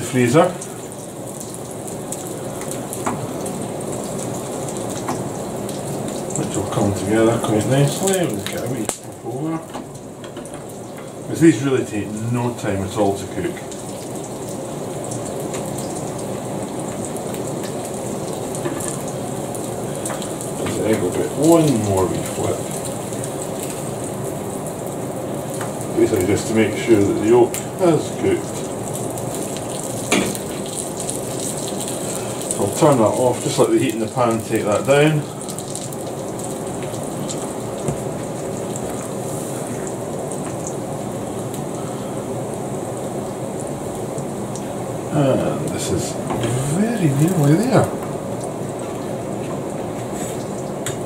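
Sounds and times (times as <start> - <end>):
food sizzling in a pan: 0.0 - 51.0
small crackles: 0.4 - 11.4, 13.3 - 44.9, 45.6 - 51.0.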